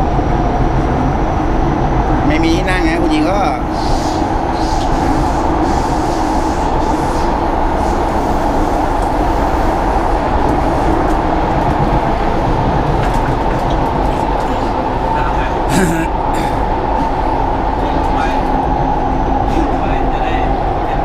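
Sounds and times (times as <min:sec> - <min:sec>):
metro train wheels rumbling: 0:00.0 - 0:21.0
train whine: 0:00.0 - 0:21.0.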